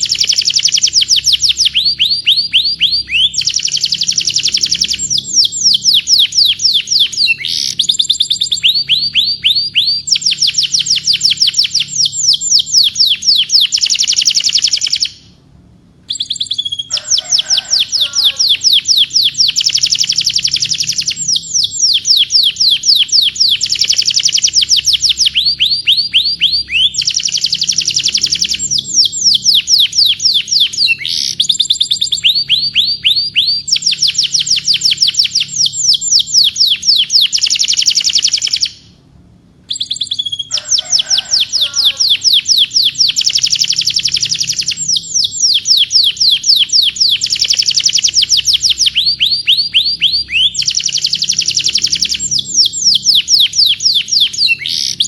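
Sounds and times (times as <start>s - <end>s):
canary singing trills: 0.0s - 15.4s, 16.0s - 39.0s, 39.7s - 55.0s.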